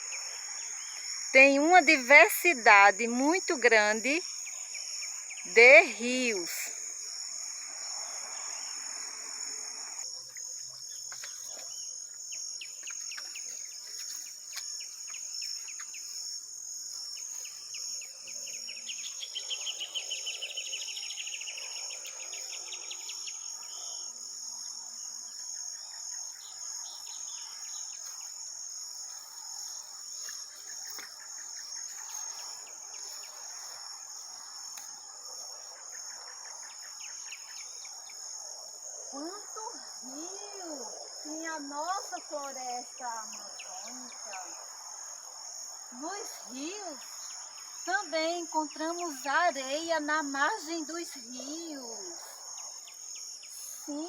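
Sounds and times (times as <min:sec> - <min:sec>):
insect rapid pulsed trill: 0:00.0 - 0:54.0
insects chirping: 0:00.0 - 0:54.0.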